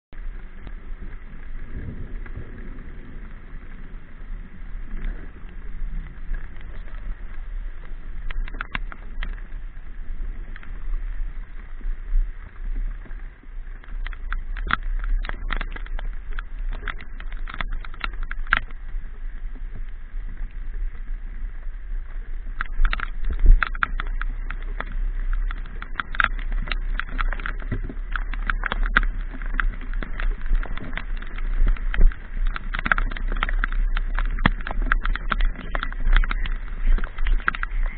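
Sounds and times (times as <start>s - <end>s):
raindrops ticking on microphone: 0.1s - 37.9s
wind and motorcycle rumble: 0.2s - 37.9s.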